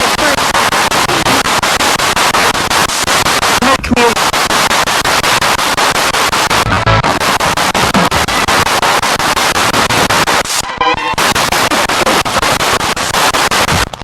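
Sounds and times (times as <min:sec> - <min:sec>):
radio static hiss chopped: 0:00.0 - 0:14.0
snatch of radio broadcast: 0:00.0 - 0:14.0.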